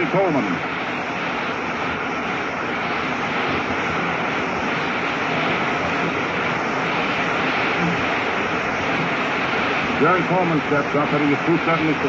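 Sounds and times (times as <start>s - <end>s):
old radio recording hiss: 0.0s - 12.0s.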